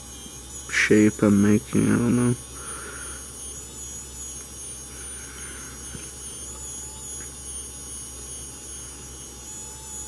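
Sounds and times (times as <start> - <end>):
small motor and fan whining: 0.0 - 10.0.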